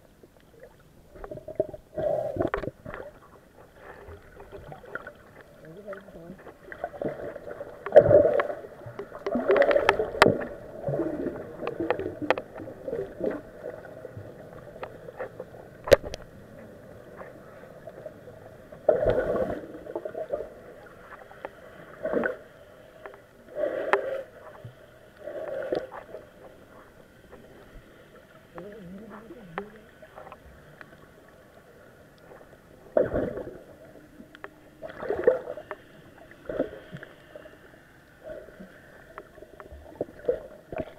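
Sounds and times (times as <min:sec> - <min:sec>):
muffled water sloshing: 0:00.0 - 0:40.9.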